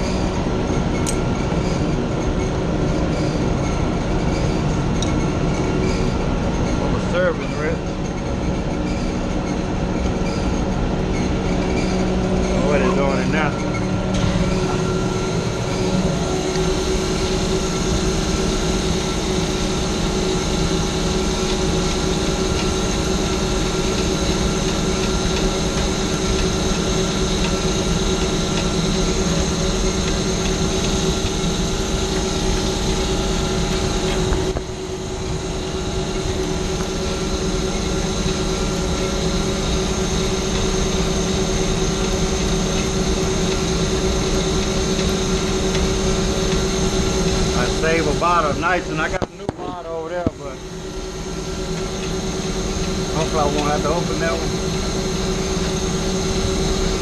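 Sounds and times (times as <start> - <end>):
hvac machinery drone: 0.0 - 57.0.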